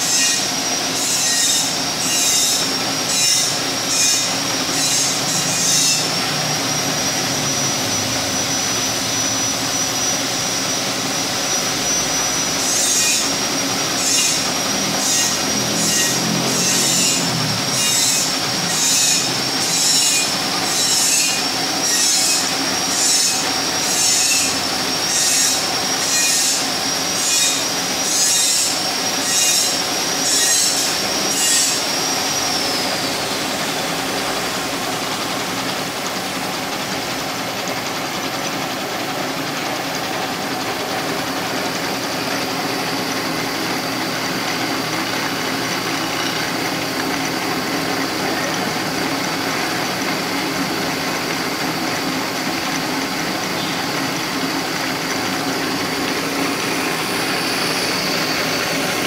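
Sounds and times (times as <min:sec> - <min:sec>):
milling machine whine: 0:00.0 - 0:59.0.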